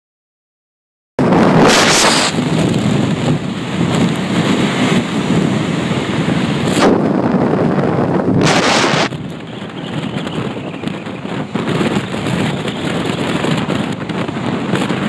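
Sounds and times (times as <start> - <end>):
storm wind buffeting microphone: 1.2 - 15.0.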